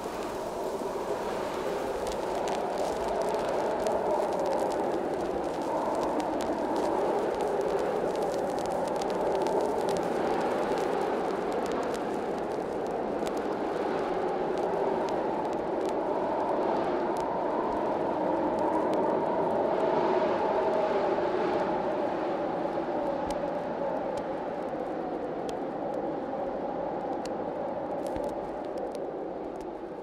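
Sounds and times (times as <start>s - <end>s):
faint crackles: 0.0s - 30.0s.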